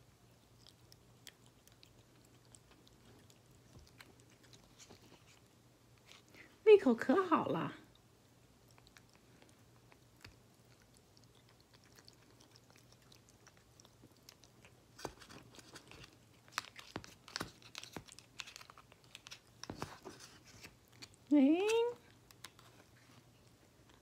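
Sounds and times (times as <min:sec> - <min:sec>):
cat chewing wet food: 0:00.0 - 0:06.5, 0:07.8 - 0:21.3, 0:22.0 - 0:24.0.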